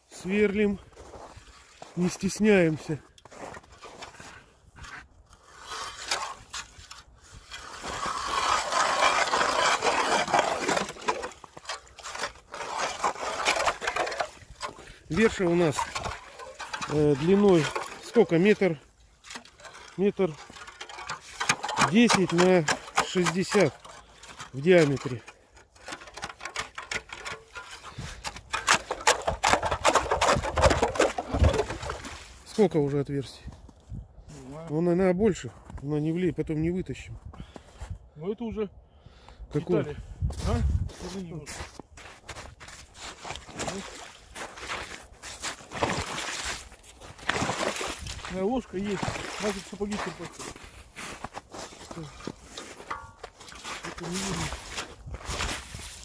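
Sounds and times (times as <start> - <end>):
ice auger grinding and scraping: 1.0 - 32.4, 40.4 - 56.0.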